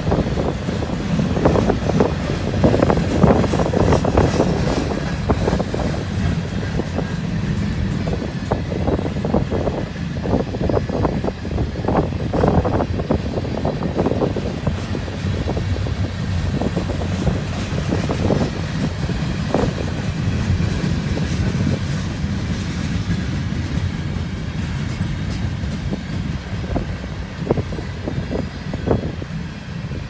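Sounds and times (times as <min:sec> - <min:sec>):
train cars clanking: 0:00.0 - 0:30.0
train wheels rumbling on rail: 0:00.0 - 0:30.0.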